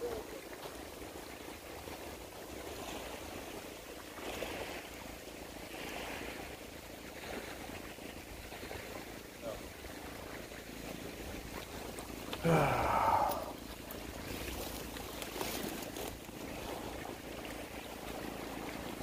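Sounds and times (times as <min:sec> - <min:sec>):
rushing outdoor background noise: 0:00.6 - 0:19.0.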